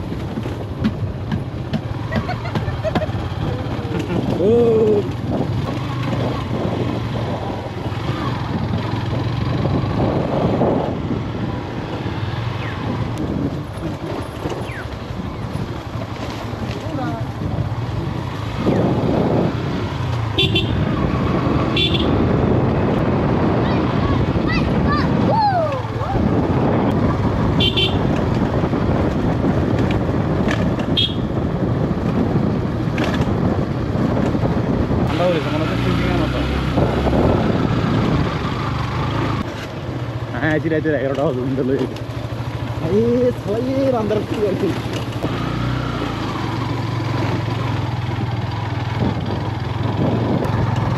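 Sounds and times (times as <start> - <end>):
wind noise on microphone: 0.0 - 39.6, 42.8 - 50.9
motorcycle engine running: 0.0 - 50.9.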